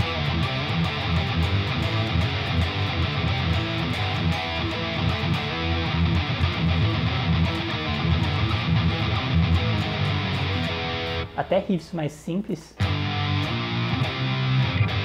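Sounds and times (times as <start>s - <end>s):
distorted electric guitar riff: 0.0s - 11.7s, 12.7s - 15.0s.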